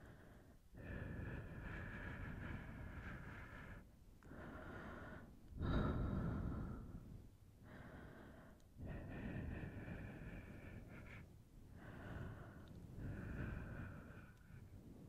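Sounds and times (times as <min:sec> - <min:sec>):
breathing into microphone: 0:00.0 - 0:15.0.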